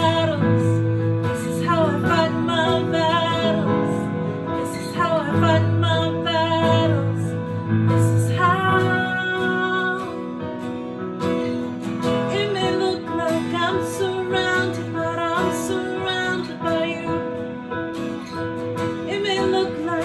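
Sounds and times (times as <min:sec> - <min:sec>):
worship music with acoustic guitar: 0:00.0 - 0:20.0.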